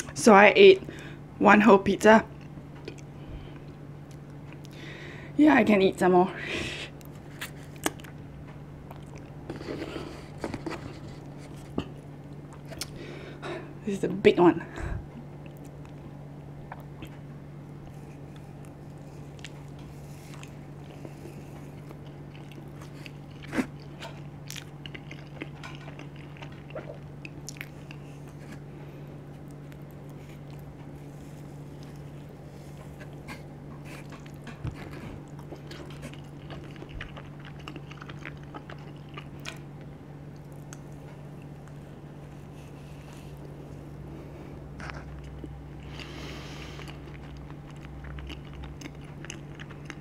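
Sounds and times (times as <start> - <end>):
steady low hum: 0.0 - 50.0
person chewing pizza: 2.3 - 5.1, 6.8 - 13.7, 15.0 - 50.0.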